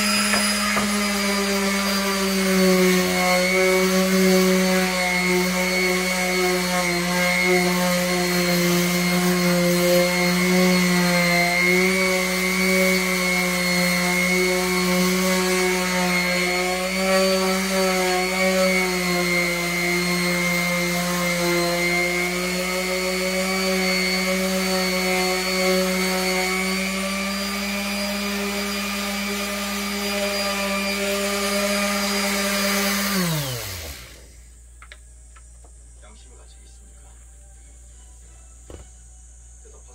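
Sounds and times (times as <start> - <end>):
motor humming and winding down: 0.0 - 35.0.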